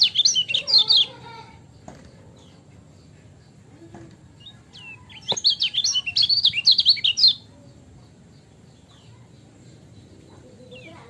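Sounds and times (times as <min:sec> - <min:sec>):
bird chirping and twittering: 0:00.0 - 0:11.0.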